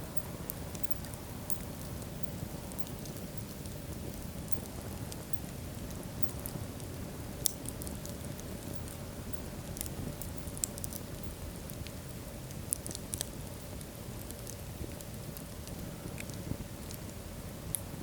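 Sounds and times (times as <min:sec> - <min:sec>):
fire crackles and pops: 0:00.0 - 0:18.0
fire rumble and hiss: 0:00.0 - 0:18.0.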